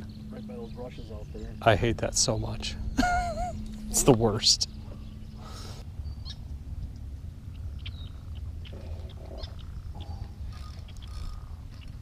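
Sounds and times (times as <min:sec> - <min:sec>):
faint bird chirps: 0:00.0 - 0:06.4, 0:07.4 - 0:12.0
steady low rumble: 0:00.0 - 0:12.0.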